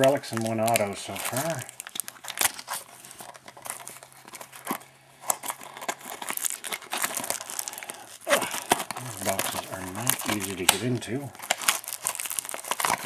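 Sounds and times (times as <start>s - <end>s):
cardboard tearing: 0.0s - 13.0s
plastic wrapper crinkling: 0.0s - 13.0s.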